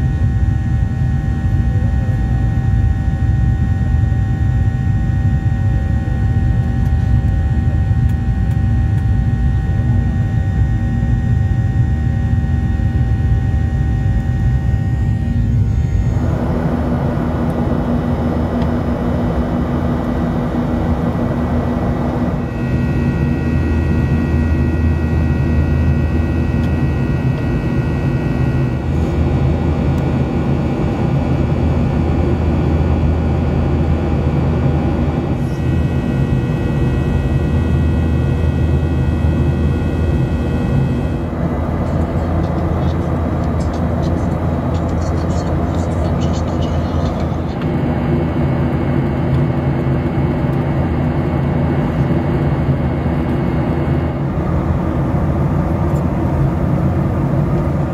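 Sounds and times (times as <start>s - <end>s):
jet engine roar in cabin: 0.0s - 57.9s
thin high whine: 0.0s - 57.9s.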